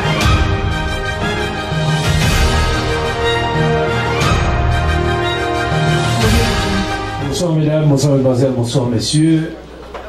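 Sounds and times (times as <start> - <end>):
theme music with bass line: 0.0 - 8.2.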